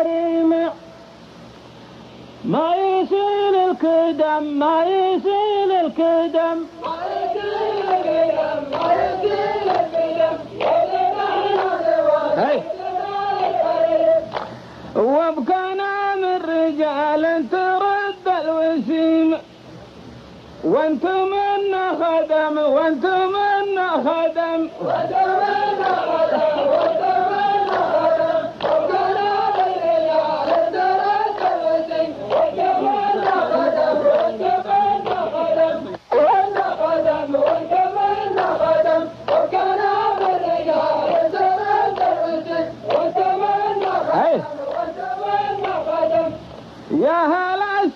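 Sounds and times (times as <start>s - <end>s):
men chanting: 2.5s - 14.4s, 20.7s - 47.9s.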